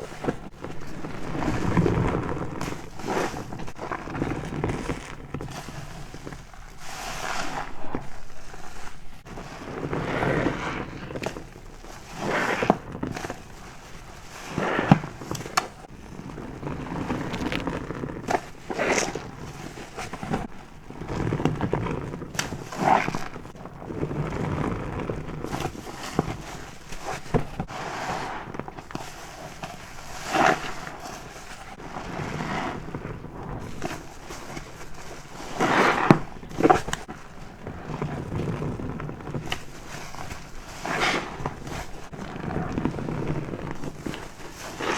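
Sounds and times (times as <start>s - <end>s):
foam bubbles crackling: 0.0s - 44.9s
wet sponge squelching: 0.0s - 44.9s.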